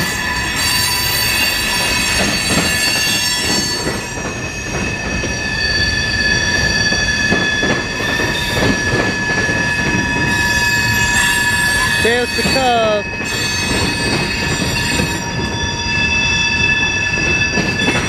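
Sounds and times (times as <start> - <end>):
train wheel squeal: 0.0 - 18.0
wheels rumbling on rails: 0.0 - 18.0.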